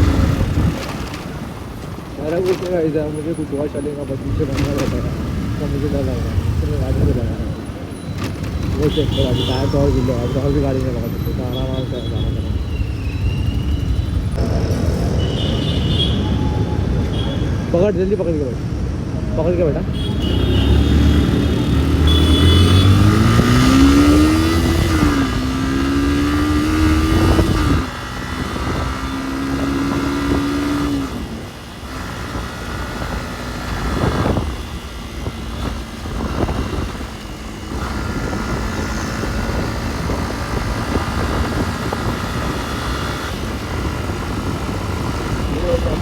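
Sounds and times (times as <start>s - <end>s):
motorcycle engine accelerating: 0.0s - 16.0s, 20.0s - 46.0s.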